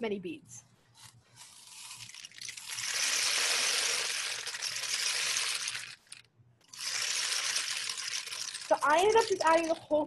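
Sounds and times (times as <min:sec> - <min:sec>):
beads rushing through rain stick: 0:01.3 - 0:09.9.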